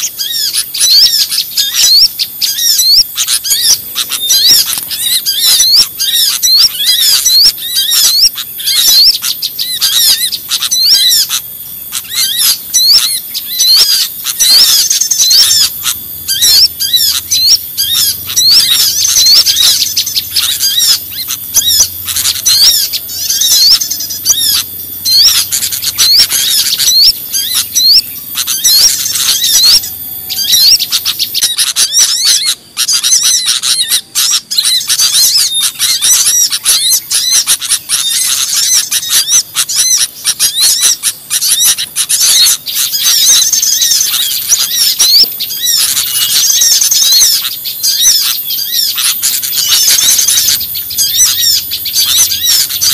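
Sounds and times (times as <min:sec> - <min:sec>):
small birds chirping chorus: 0:00.0 - 0:52.9.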